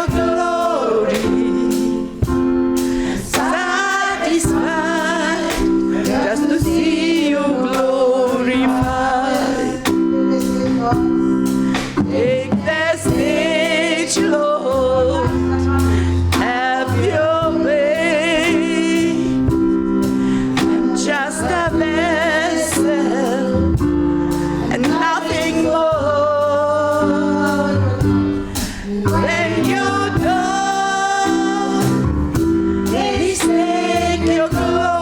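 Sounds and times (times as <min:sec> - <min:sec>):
gospel singing with vibrato: 0:00.0 - 0:35.0
instrumental held chords: 0:00.0 - 0:35.0.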